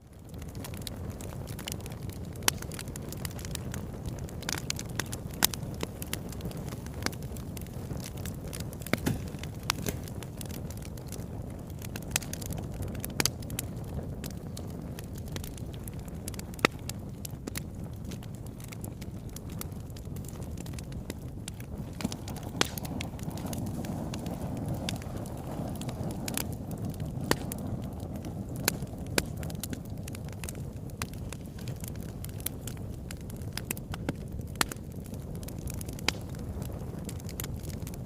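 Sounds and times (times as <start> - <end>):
fire crackles and pops: 0.0 - 38.0
wood fire flames rushing: 0.0 - 38.0
loud fire snaps: 0.1 - 38.0.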